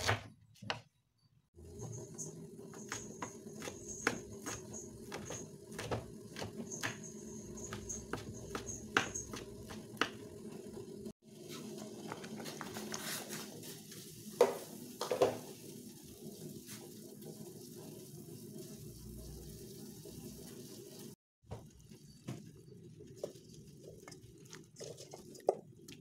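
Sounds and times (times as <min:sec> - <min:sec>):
pot of water heating rush: 0:01.6 - 0:26.0.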